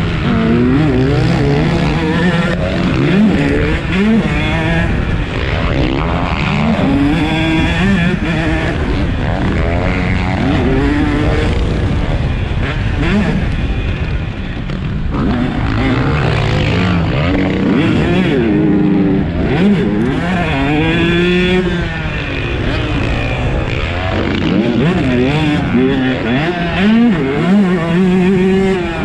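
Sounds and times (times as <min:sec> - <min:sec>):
two-stroke engine revving hard: 0:00.0 - 0:29.0.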